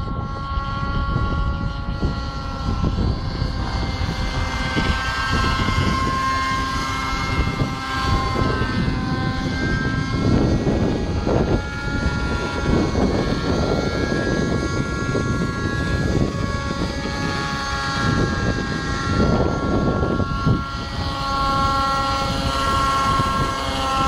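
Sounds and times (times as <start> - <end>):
model helicopter engine whining: 0.0 - 24.0
wind rumbling on microphone: 0.0 - 24.0.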